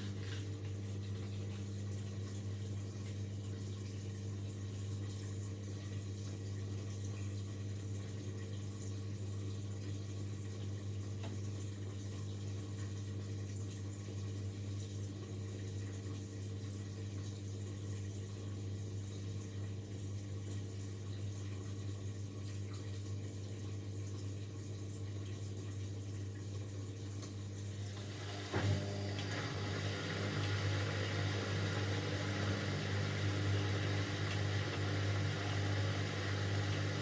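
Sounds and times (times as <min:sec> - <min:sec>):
washing machine humming: 0:00.0 - 0:37.0
water moving inside machine: 0:00.0 - 0:37.0.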